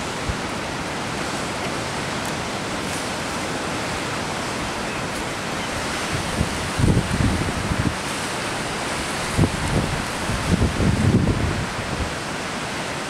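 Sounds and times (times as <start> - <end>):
sea surf breaking over rocks: 0.0 - 13.0.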